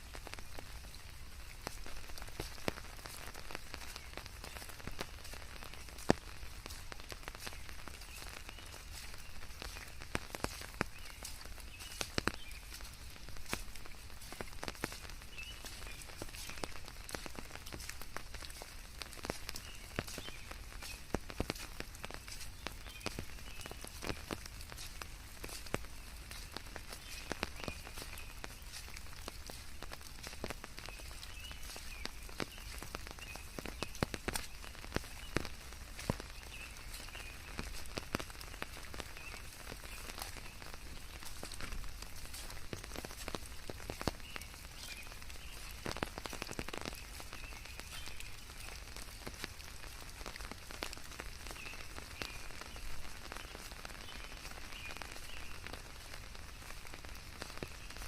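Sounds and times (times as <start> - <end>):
raindrops striking close by: 0.0 - 58.0
steady rain: 0.0 - 58.0.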